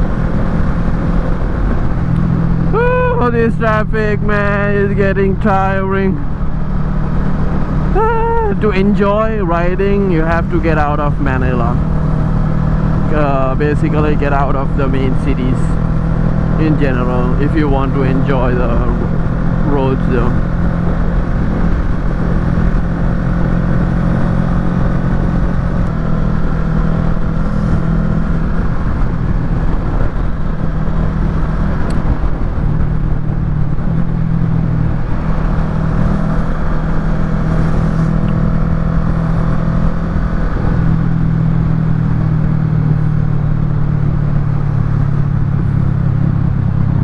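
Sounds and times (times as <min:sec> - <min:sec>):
motorcycle engine running at low speed: 0:00.0 - 0:47.0.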